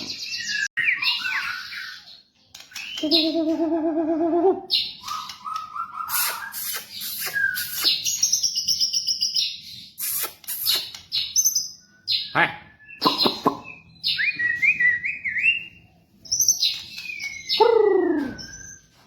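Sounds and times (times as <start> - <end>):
bird singing trills and whistles: 0.0 - 19.0.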